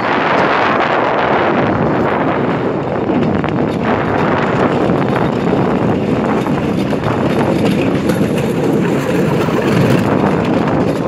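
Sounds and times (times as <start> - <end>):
train engine and wheels rumbling: 0.0 - 11.0
wind buffeting microphone: 0.0 - 11.0.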